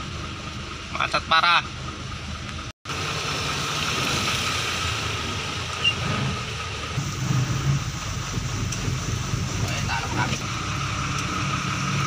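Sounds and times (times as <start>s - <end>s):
trucks and cars idling: 0.0s - 12.0s.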